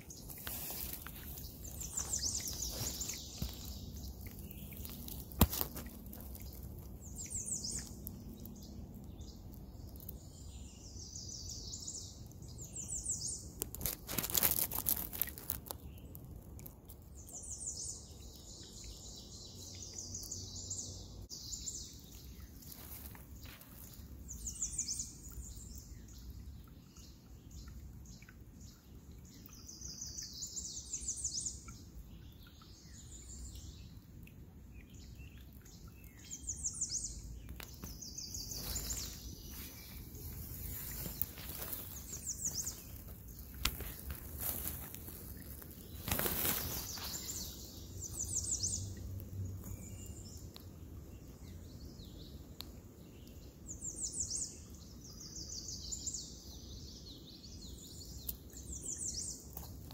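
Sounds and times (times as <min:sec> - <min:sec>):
songbirds trilling: 0:00.0 - 0:16.1, 0:17.4 - 0:34.0, 0:34.7 - 0:59.9.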